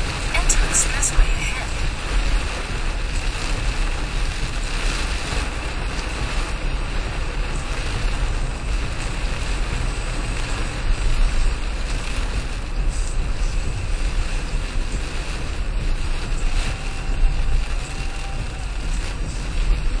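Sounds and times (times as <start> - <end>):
road rumble inside moving car: 0.0 - 20.0
wind hiss: 0.0 - 20.0.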